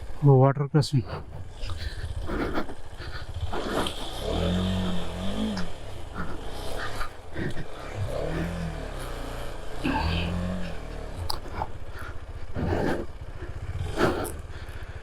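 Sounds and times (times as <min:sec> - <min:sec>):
motorcycle engine running: 0:01.0 - 0:15.0.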